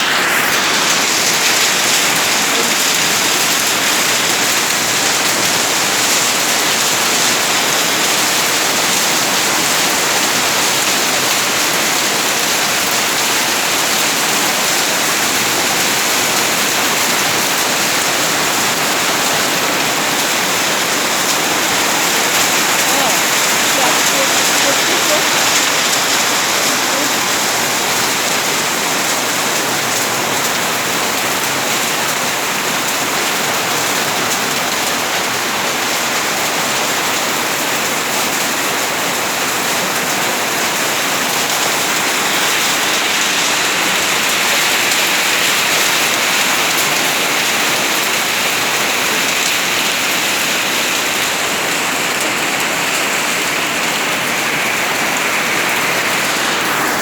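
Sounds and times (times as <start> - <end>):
hail and heavy rain: 0.0 - 57.0.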